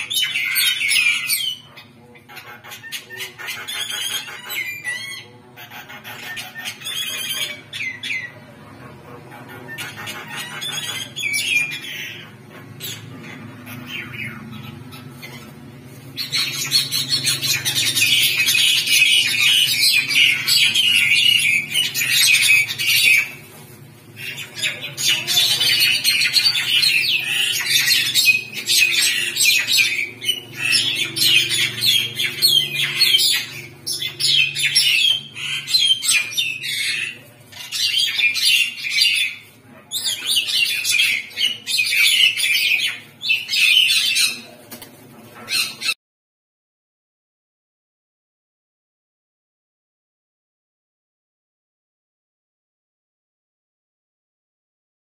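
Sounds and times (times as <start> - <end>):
birds squawking and chattering: 0.0 - 46.0.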